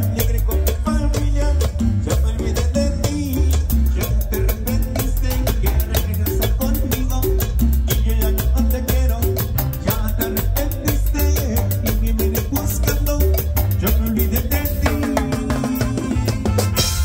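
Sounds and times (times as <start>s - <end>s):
live latin dance music: 0.0s - 17.0s.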